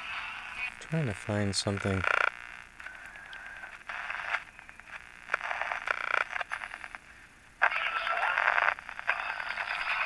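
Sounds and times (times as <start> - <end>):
radio static while tuning: 0.0 - 10.0.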